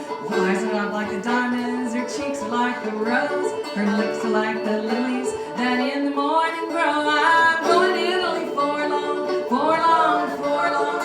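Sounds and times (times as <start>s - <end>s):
person singing folk song: 0.0s - 11.0s
plucked strings: 0.0s - 11.0s.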